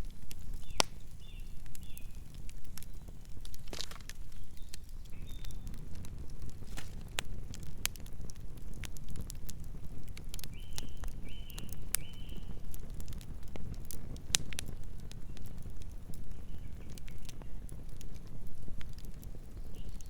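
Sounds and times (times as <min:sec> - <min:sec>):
campfire pops and snaps: 0:00.0 - 0:20.0
flames rumbling: 0:00.0 - 0:20.0.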